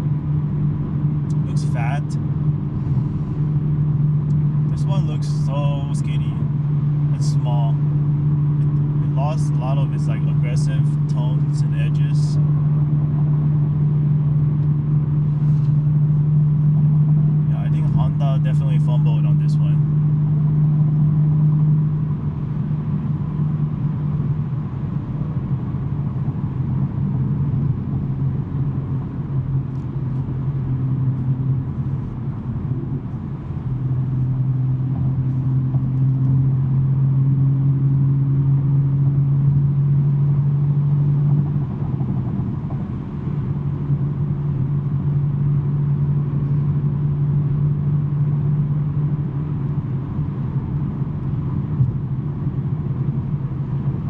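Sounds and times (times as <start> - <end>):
car exhaust drone: 0.0 - 54.0.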